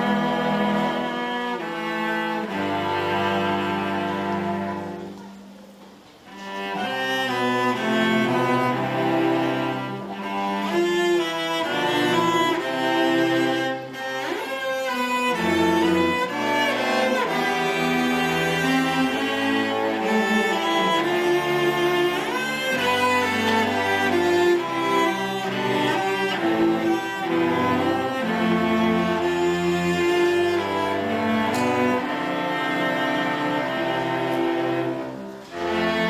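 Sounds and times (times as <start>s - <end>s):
string orchestra playing: 0.0s - 36.0s.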